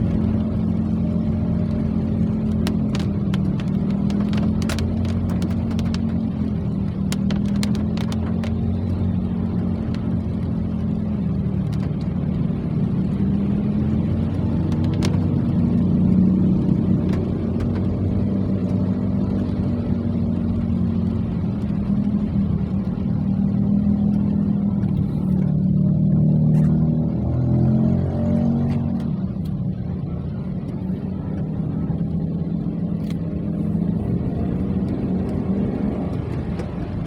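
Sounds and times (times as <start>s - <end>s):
low engine hum: 0.0s - 37.0s.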